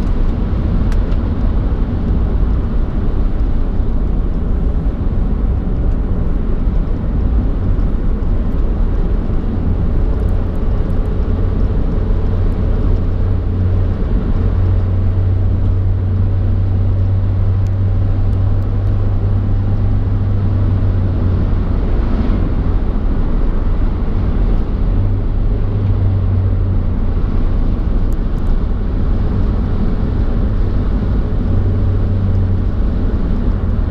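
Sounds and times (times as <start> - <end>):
road and wind noise: 0.0 - 33.9.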